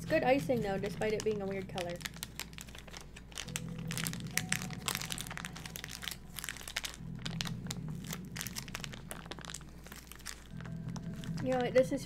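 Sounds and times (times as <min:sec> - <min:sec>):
plastic piping bag crinkling: 0:00.0 - 0:12.0.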